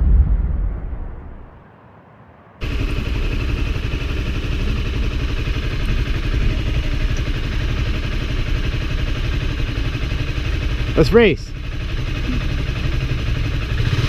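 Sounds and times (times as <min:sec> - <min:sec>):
motorcycle engine running: 0:02.6 - 0:14.0.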